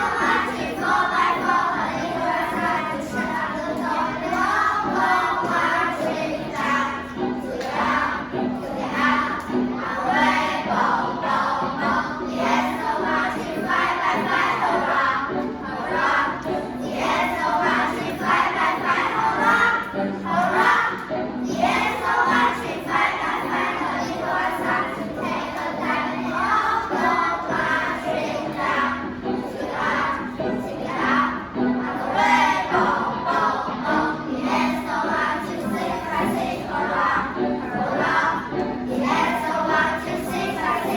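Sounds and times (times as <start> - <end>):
children singing together: 0.0 - 40.9.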